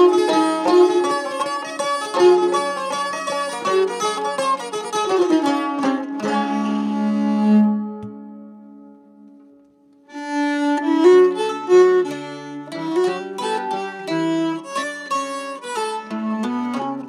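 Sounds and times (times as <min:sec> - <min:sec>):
string instruments plucked and bowed: 0:00.0 - 0:17.0.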